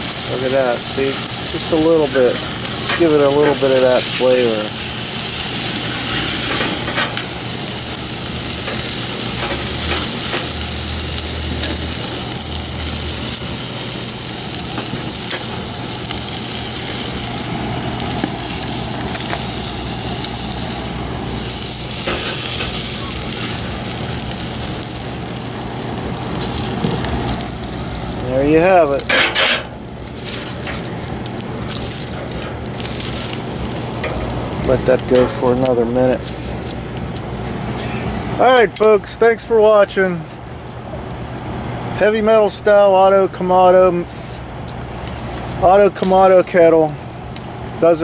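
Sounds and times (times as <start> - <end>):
meat sizzling on a grill: 0.0 - 48.0.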